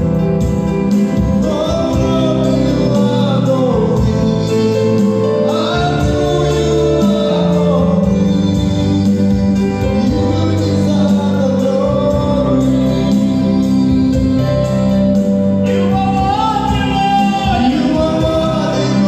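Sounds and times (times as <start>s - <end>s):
gospel singing: 0.0s - 19.0s
keyboard chords: 0.0s - 19.0s.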